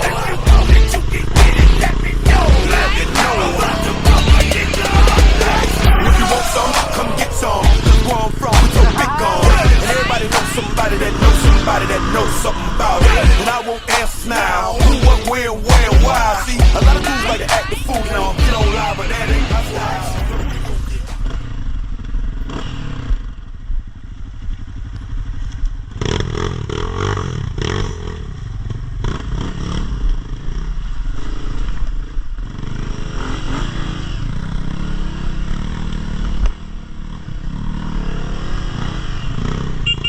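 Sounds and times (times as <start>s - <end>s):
dirt bike engine running: 0.0s - 40.0s.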